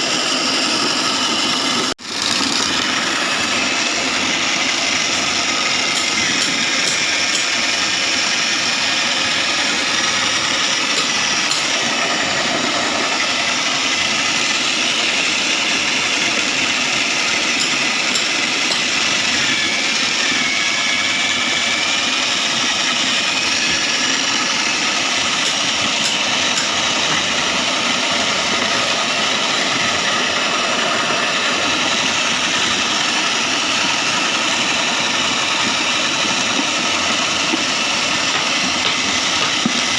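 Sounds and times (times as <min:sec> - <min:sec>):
high machine whine: 0:00.0 - 0:39.9
shredding machine running: 0:00.0 - 0:39.9.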